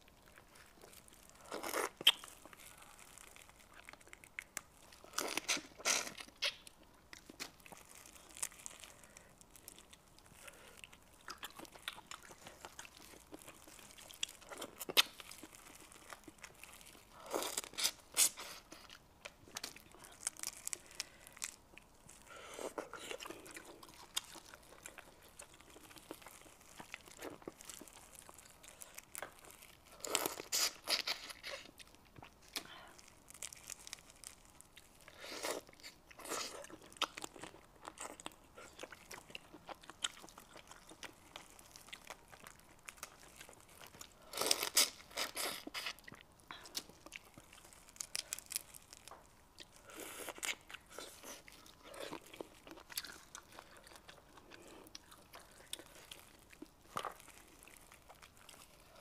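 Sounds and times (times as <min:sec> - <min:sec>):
biting and chewing: 0:00.1 - 0:59.0.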